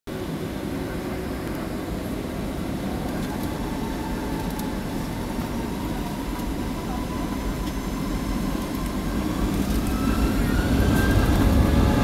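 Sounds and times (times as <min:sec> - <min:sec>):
jet engine cabin rumble: 0:00.1 - 0:12.0.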